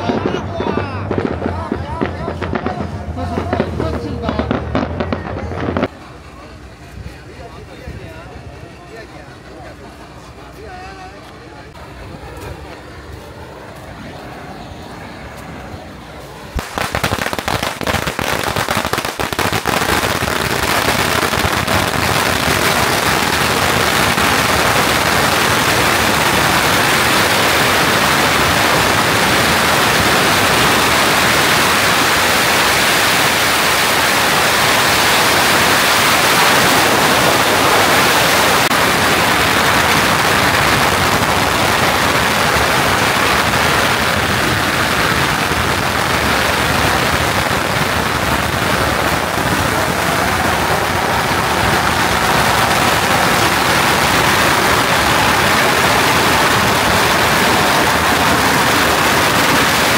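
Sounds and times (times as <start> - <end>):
firecrackers crackling: 0.0 - 10.6, 11.2 - 59.9.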